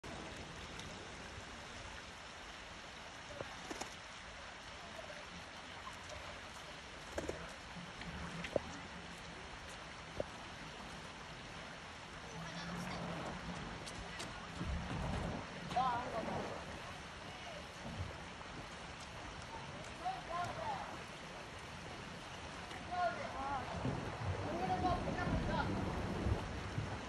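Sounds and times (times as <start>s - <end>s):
flowing river water: 0.0s - 27.0s.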